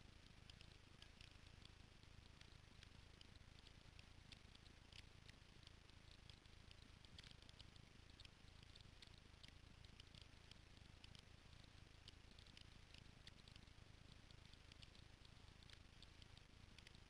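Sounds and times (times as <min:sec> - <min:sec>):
light ticks and clicks: 0:00.0 - 0:17.0.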